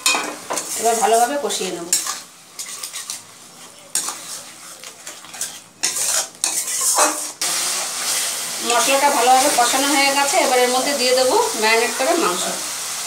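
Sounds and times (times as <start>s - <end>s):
masala sizzling: 0.0s - 13.0s
spatula scraping a wok: 0.4s - 11.3s.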